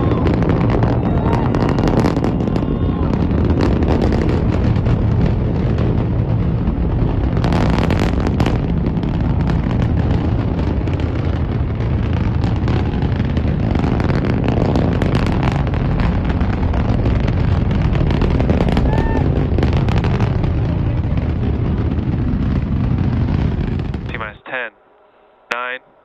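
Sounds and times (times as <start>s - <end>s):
rocket engine rumble with crackling: 0.0s - 24.7s, 25.5s - 25.8s.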